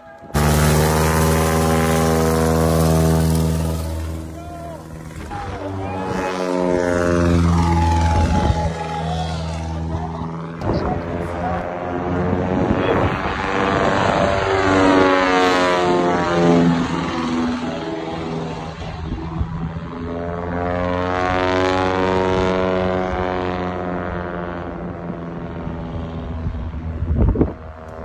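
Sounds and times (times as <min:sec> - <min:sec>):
propeller aircraft flying past: 0:00.2 - 0:28.0.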